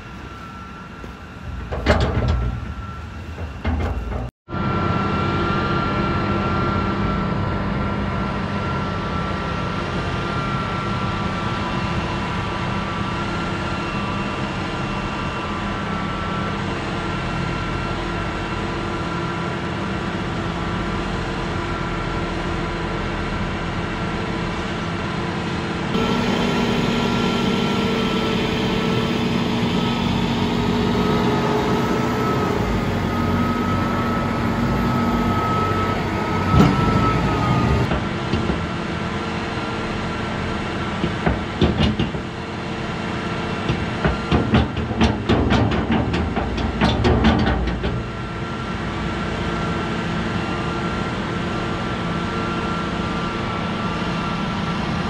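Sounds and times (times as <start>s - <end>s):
machinery hum with high whine: 0.0s - 55.0s.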